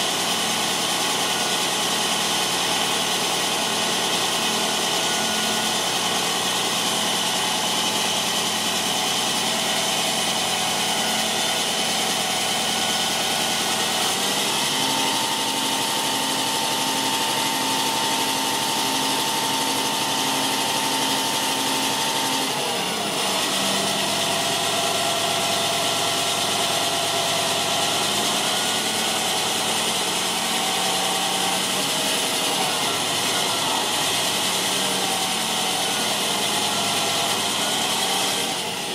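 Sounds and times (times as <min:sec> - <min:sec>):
diesel truck engine running: 0:00.0 - 0:38.9
hydraulic whine: 0:00.0 - 0:38.9.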